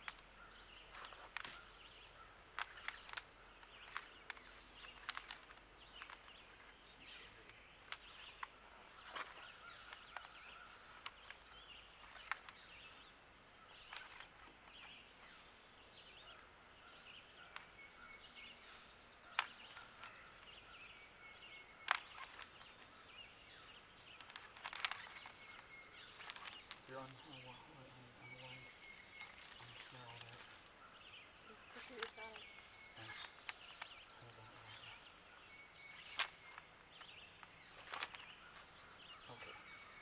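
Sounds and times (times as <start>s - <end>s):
faint high chirping: 0.0s - 40.0s.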